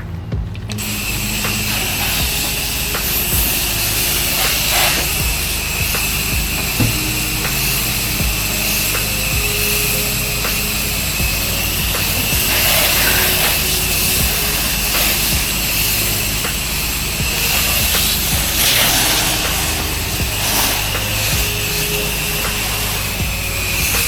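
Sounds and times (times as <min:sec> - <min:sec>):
pressure washer engine hum: 0:00.0 - 0:24.0
spray hissing: 0:00.0 - 0:24.0.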